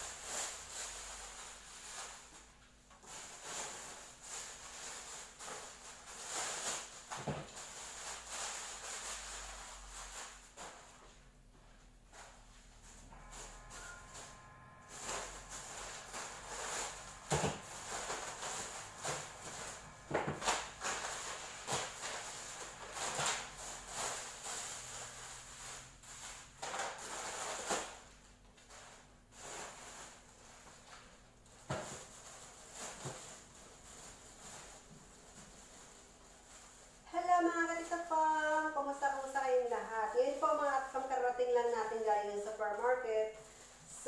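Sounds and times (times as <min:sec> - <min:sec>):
plastic bags rustling: 0:00.0 - 0:44.0.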